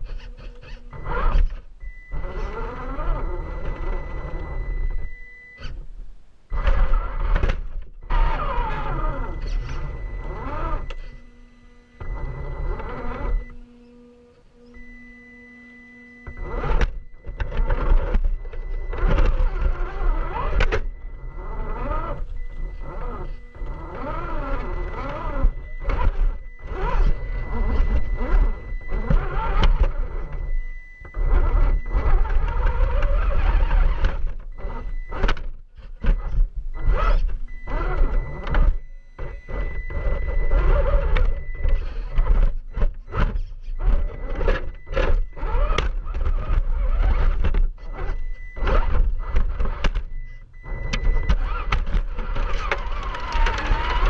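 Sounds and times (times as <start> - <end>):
electric motor whine: 0.0 - 5.8, 6.5 - 35.4, 36.0 - 54.0.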